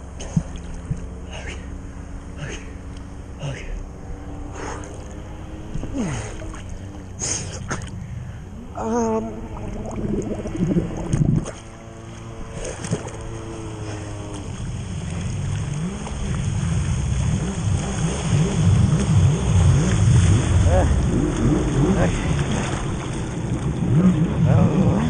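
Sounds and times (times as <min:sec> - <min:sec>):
motorboat engine running: 0:00.0 - 0:25.0
water rushing and splashing: 0:02.4 - 0:25.0.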